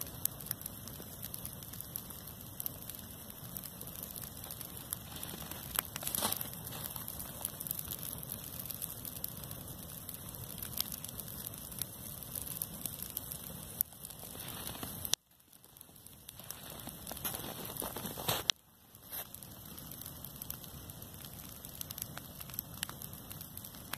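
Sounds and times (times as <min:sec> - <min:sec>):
hay burning crackling: 0:00.0 - 0:23.9.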